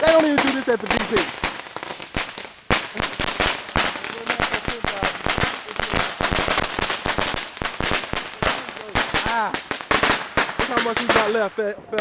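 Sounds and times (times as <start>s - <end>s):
firecracker string crackling: 0.0s - 12.0s.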